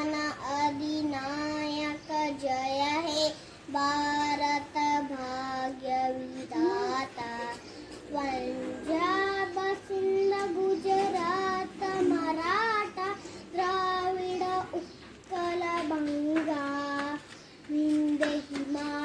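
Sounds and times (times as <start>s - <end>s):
boy singing: 0.0s - 19.0s.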